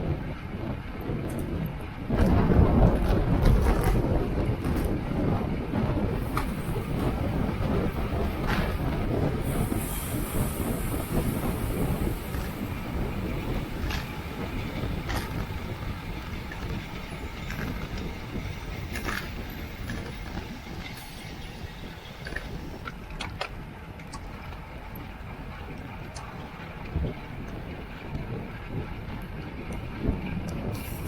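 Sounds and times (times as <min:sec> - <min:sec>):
tyre rumble on road: 0:00.0 - 0:30.8
wind rush: 0:00.0 - 0:31.0.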